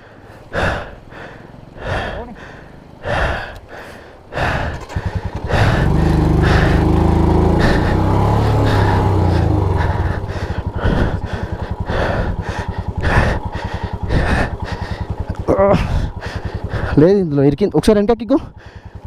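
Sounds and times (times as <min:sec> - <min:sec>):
motorcycle engine revving: 0:00.5 - 0:19.0.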